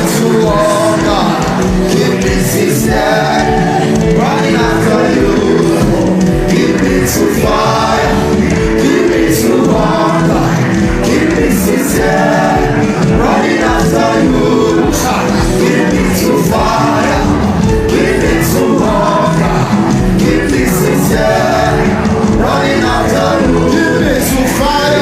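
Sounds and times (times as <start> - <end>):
gospel group singing over a beat: 0.0 - 25.0.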